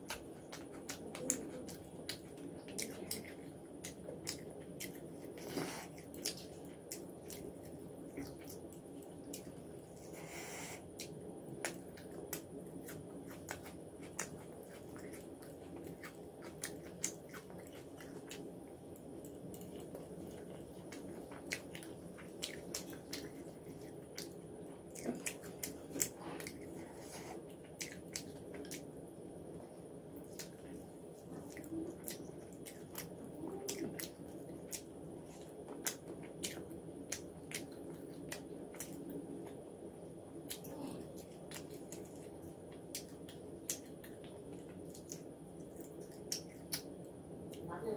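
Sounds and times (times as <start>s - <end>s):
person chewing food: 0.0s - 47.6s
faint background hum: 0.0s - 47.9s.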